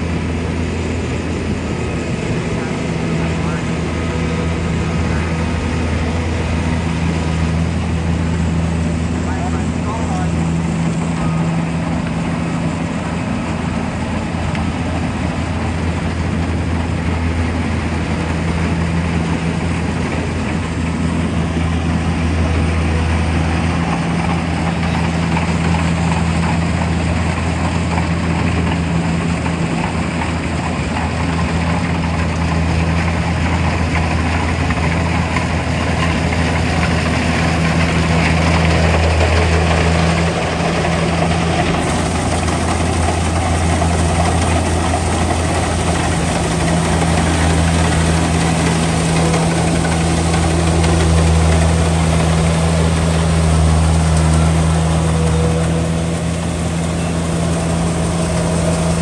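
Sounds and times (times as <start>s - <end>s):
combine harvester engine hum: 0.0s - 59.0s
machinery noise: 0.0s - 59.0s.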